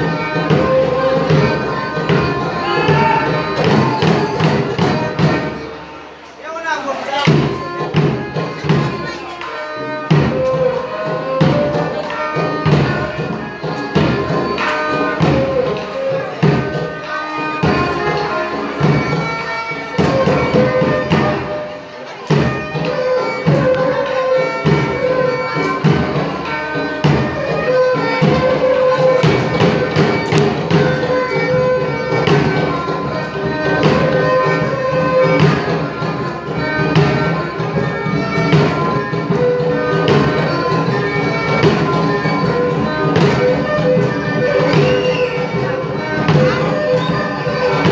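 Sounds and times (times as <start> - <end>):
struck percussion beat: 0.0 - 5.7, 7.1 - 9.2, 9.8 - 21.6, 22.3 - 47.9.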